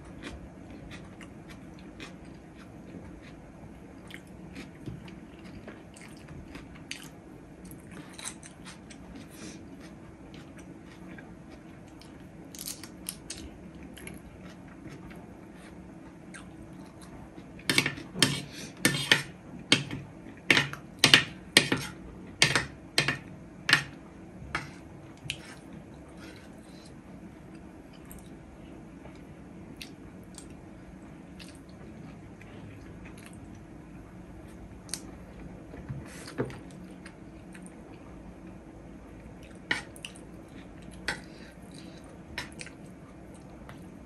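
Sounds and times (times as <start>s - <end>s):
soft chewing: 0.0s - 18.8s, 24.5s - 30.6s, 31.3s - 33.6s, 34.4s - 38.2s, 39.2s - 44.0s.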